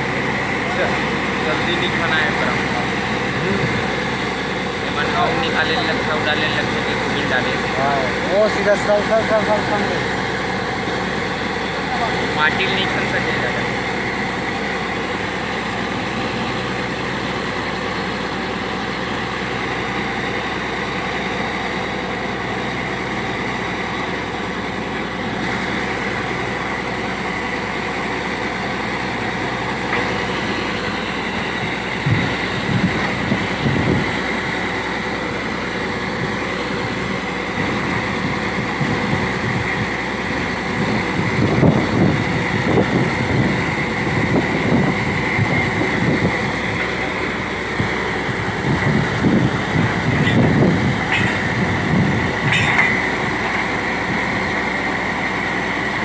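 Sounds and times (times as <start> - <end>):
drilling rig running: 0.0 - 56.0
high whine: 0.0 - 56.0.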